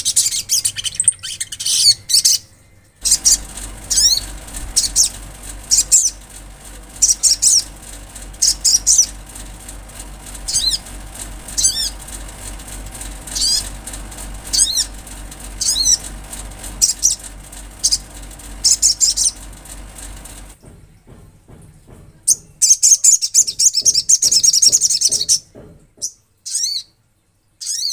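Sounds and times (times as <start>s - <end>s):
steady low hum: 0.0s - 22.7s.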